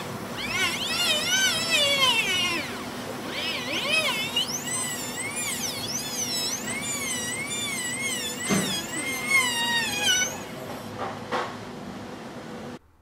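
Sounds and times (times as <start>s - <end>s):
dental drill whining: 0.0s - 10.8s.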